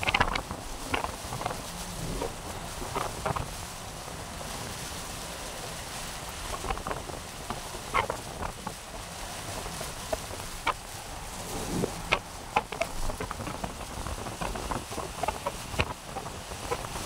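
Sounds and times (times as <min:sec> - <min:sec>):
sharp ticks and patter: 0:00.0 - 0:04.5, 0:05.2 - 0:17.0
strong wind buffeting microphone: 0:00.0 - 0:17.0.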